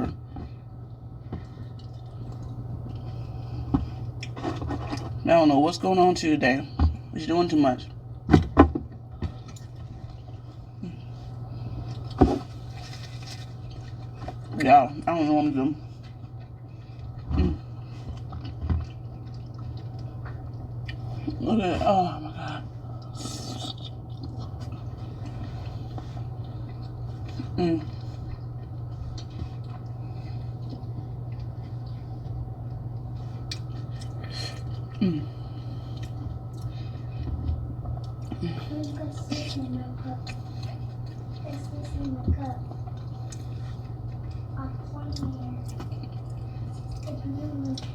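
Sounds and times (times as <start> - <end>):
steady low hum: 0.0 - 47.9
seafood being chewed: 0.4 - 5.2, 8.0 - 14.7, 15.8 - 21.4, 22.4 - 47.9.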